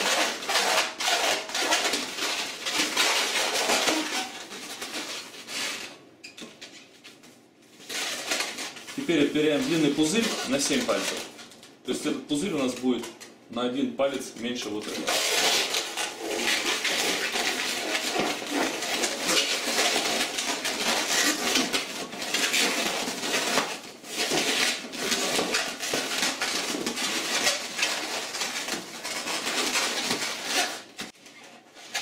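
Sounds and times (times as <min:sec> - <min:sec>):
balloon squeaking and rubbing: 0:00.0 - 0:06.9, 0:07.8 - 0:11.4, 0:14.9 - 0:32.0.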